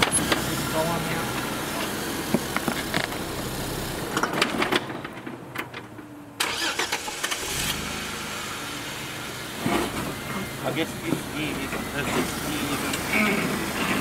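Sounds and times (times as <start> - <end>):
car engine running: 0.0 - 5.4, 6.5 - 14.0
engine cranking: 0.0 - 14.0.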